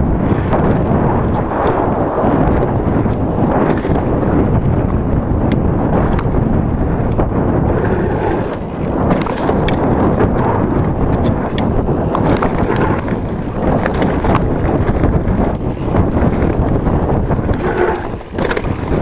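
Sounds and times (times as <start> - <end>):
bike clicks and rattles: 0.0 - 19.0
bike tyres rolling on dirt trail: 0.0 - 19.0
wind buffeting microphone: 0.0 - 19.0.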